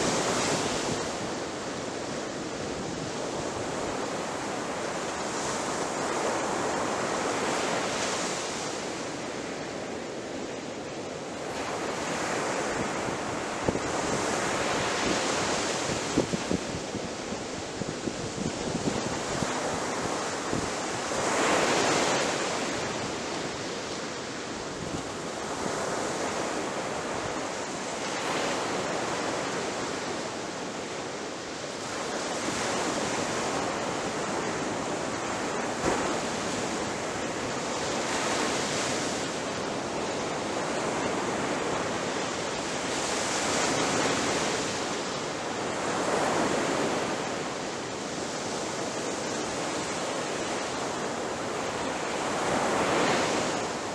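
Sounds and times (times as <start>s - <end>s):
ocean waves breaking on shore: 0.0s - 53.9s.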